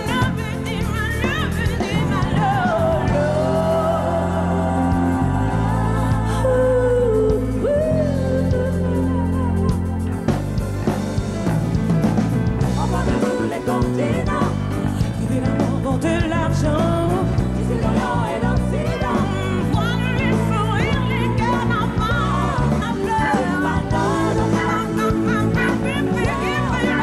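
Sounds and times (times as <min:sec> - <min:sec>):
woman singing: 0:00.0 - 0:10.2, 0:12.7 - 0:27.0
live band playing: 0:00.0 - 0:27.0.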